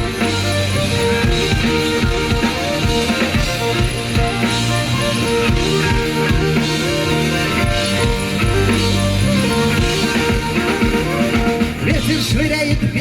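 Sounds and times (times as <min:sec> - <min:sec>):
drum kit beat: 0:00.0 - 0:13.0
guitar: 0:00.0 - 0:13.0.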